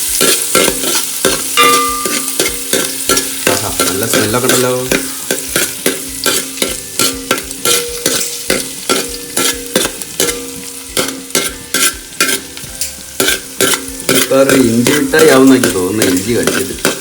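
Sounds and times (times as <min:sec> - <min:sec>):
garlic sizzling in oil: 0:00.0 - 0:17.0
spatula scraping a pan: 0:00.0 - 0:17.0.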